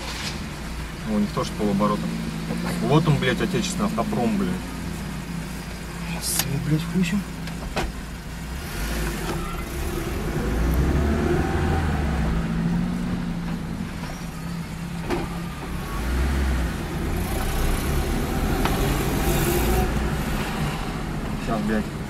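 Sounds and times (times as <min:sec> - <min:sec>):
car engine driving off: 0:00.0 - 0:22.0.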